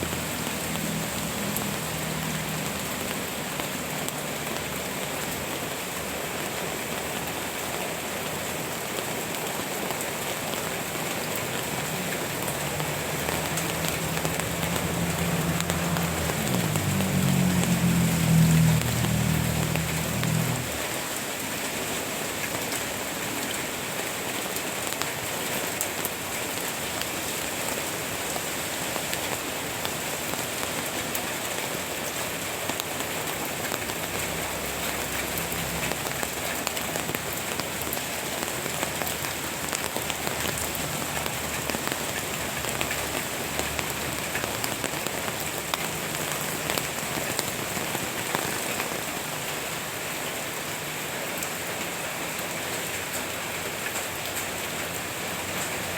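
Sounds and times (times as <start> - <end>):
raindrops ticking on surfaces: 0.0 - 55.9
steady rain falling: 0.0 - 55.9.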